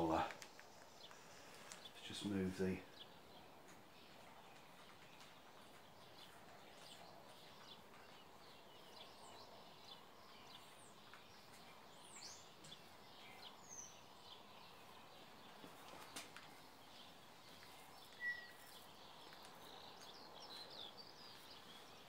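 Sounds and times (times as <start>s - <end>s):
faint high bird chirps: 0.9s - 22.0s.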